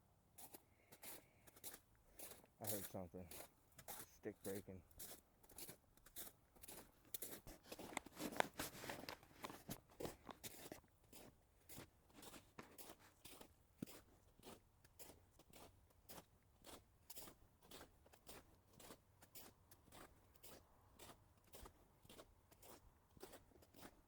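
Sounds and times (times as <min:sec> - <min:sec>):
footsteps crunching: 0:00.4 - 0:24.0.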